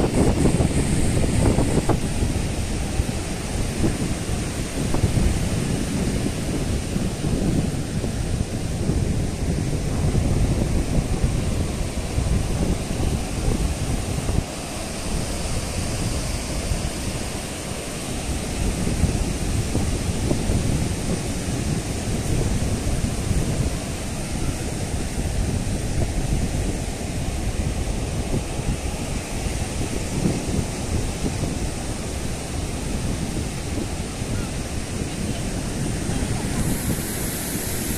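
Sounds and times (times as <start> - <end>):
surf breaking on beach: 0.0 - 37.9
wind buffeting microphone: 0.0 - 37.9.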